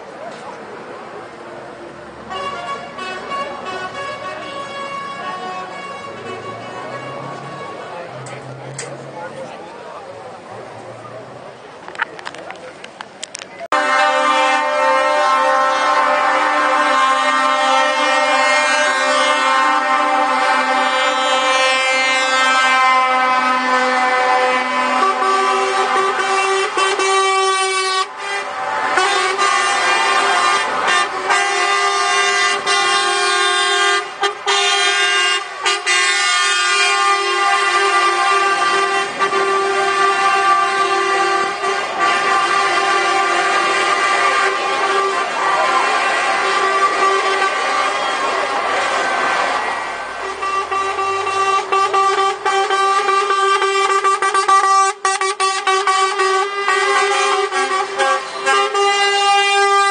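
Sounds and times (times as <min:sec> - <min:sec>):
truck air horn blasts: 0:02.2 - 0:08.1, 0:13.7 - 0:59.9.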